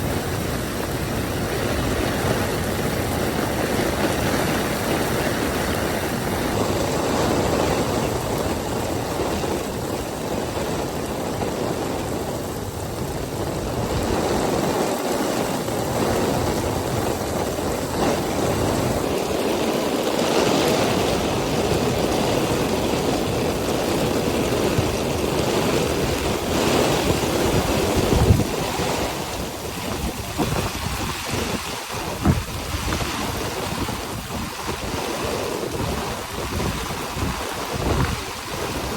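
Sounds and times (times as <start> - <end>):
rain and wind rushing: 0.0 - 38.9.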